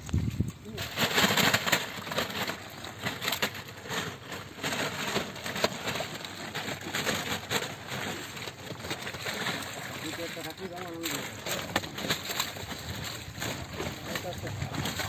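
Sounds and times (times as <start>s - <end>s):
fish flapping in net: 0.0s - 15.0s
water splashes: 0.0s - 15.0s.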